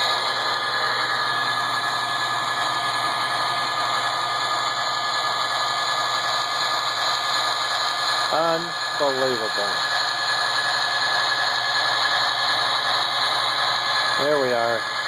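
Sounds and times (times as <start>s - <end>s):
model train hum and rattle: 0.0s - 15.0s.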